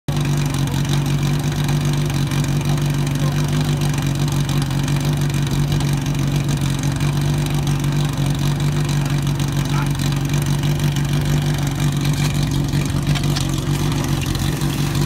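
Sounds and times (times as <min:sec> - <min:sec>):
pump engine droning: 0:00.1 - 0:15.0.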